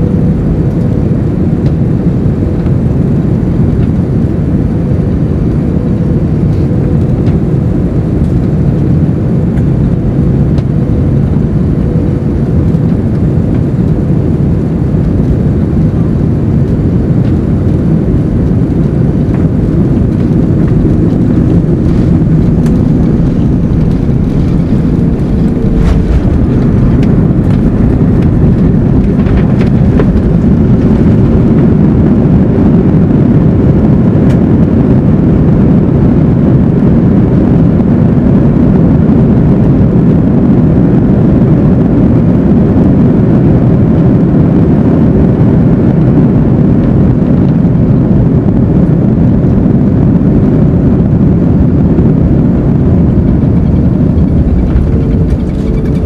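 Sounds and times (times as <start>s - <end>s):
engine and runway roar: 0.0s - 56.0s.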